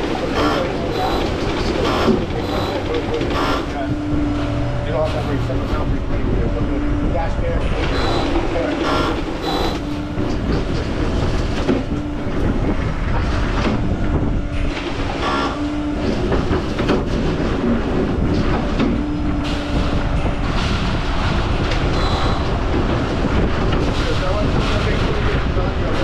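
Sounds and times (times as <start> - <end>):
heavy machinery rattling: 0.0 - 26.0
low hum: 0.0 - 26.0.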